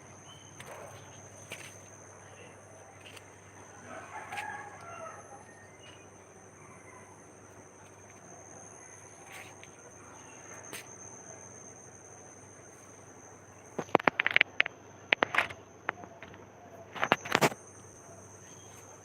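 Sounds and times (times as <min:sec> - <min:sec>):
high-pitched insect trill: 0:00.0 - 0:19.0.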